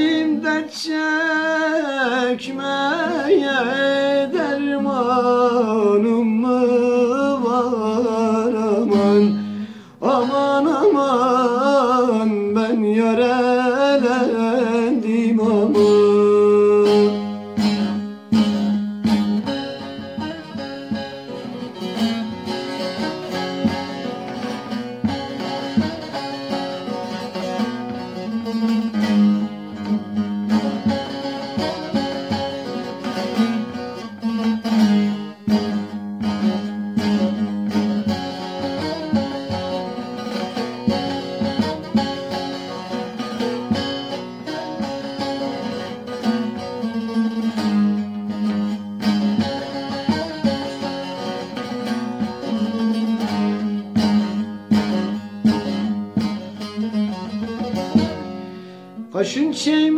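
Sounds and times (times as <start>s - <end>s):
plucked long-necked lute melody: 0.0s - 59.9s.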